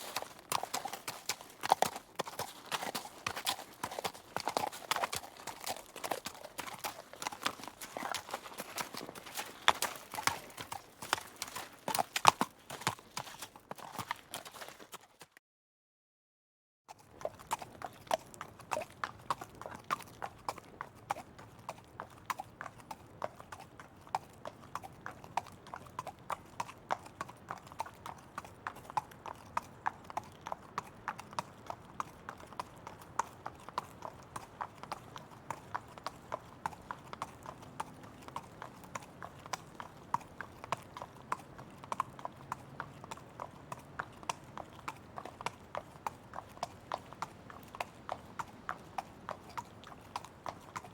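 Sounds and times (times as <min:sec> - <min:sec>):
horse hooves clip-clopping: 0:00.0 - 0:15.4, 0:16.9 - 0:50.9.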